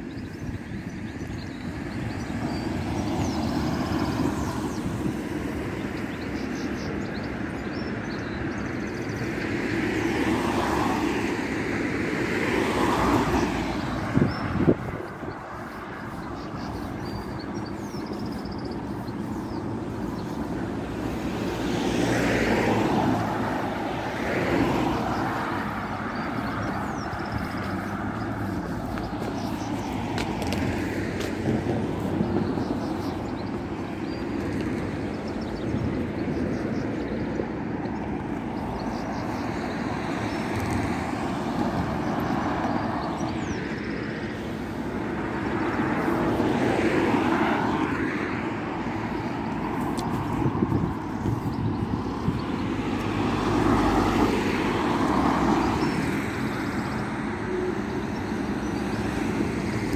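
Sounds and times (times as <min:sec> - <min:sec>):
cars passing by: 0:00.0 - 0:59.9.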